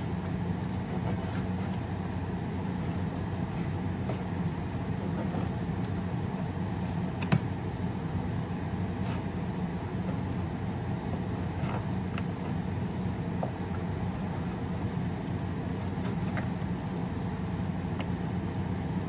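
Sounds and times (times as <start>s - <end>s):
stove humming: 0.0s - 19.0s.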